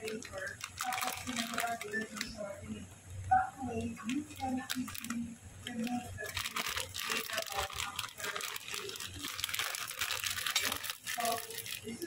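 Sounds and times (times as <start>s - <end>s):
plastic packaging crinkling: 0.0s - 2.6s, 3.3s - 12.0s.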